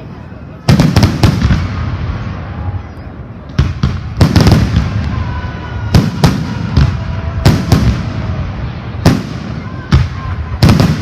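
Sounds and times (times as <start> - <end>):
fireworks bursts: 0.6 - 2.6, 3.5 - 11.0.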